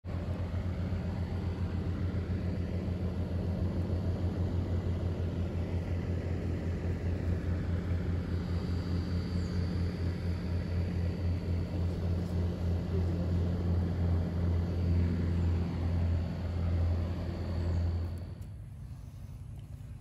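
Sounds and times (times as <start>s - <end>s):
low mechanical rumble with flutter: 0.0s - 20.0s.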